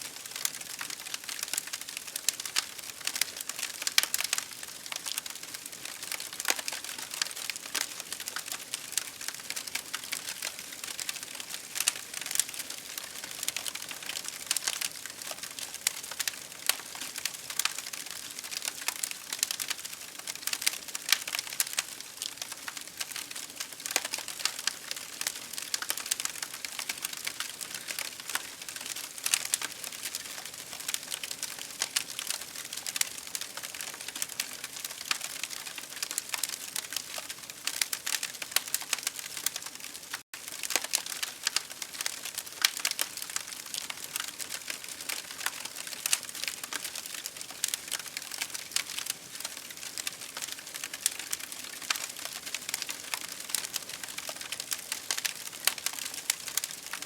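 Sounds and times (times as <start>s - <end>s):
campfire crackling: 0.1s - 57.0s.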